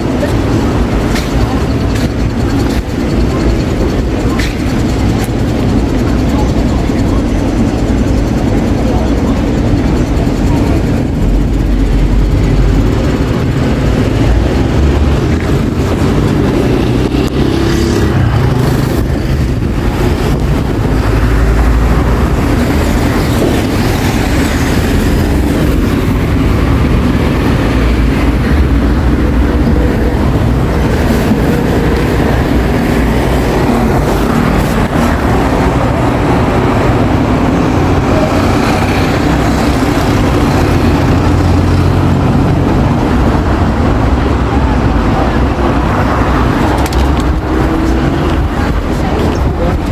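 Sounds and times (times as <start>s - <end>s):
city traffic rumble: 0.0s - 49.9s.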